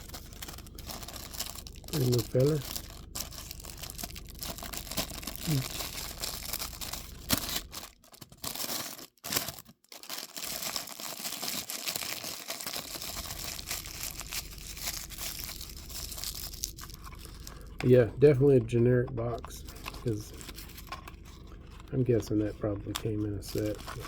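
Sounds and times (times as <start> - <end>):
packaging crinkling and tearing: 0.0 - 18.0, 18.6 - 24.0.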